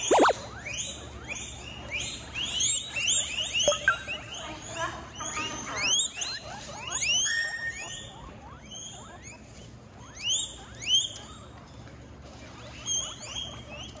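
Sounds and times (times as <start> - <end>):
guinea pig squealing: 0.0 - 14.0.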